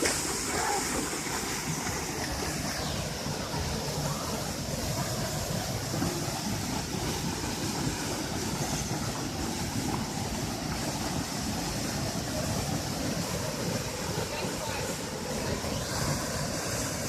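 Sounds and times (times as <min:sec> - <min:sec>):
waterfall running: 0:00.0 - 0:17.0.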